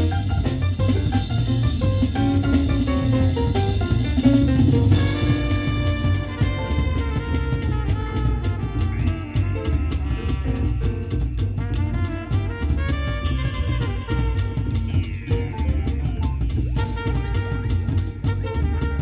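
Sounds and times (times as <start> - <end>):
jazz with drums and brass: 0.0 - 19.0.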